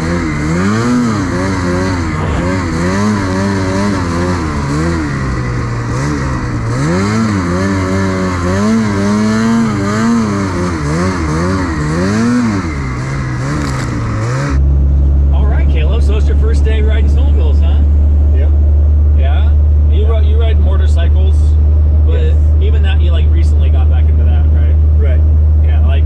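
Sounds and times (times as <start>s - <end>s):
snowmobile engine revving: 0.0s - 14.7s, 19.2s - 26.0s.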